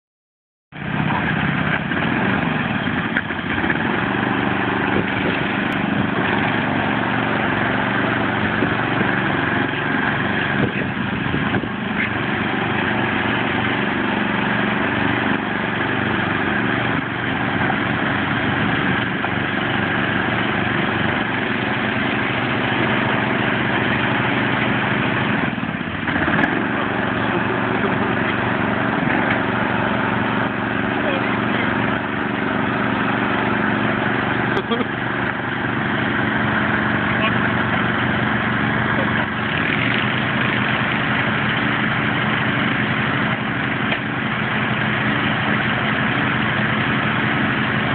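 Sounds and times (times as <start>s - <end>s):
lawn mower engines running: 0.7s - 47.9s.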